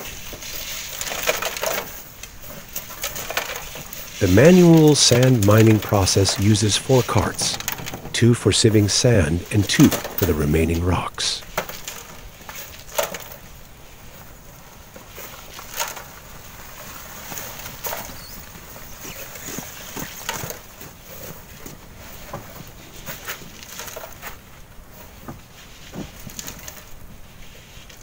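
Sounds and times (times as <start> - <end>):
shovels and wheelbarrows knocking: 0.0 - 13.6, 14.9 - 26.9
faint steady hiss: 0.0 - 28.0.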